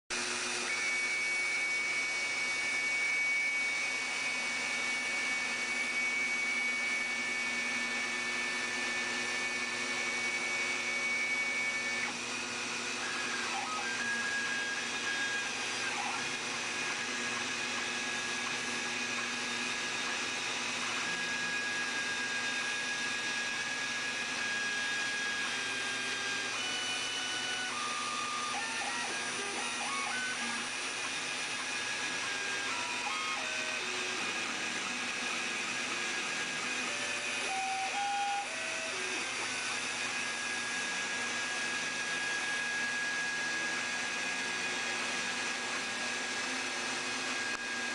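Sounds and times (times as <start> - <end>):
drive motors whining: 0.1 - 47.9
router spindle running: 0.1 - 47.9.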